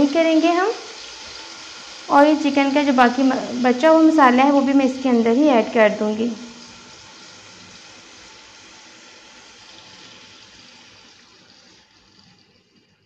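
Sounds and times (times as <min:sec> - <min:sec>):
marinade sizzling in hot oil: 0:00.0 - 0:13.0.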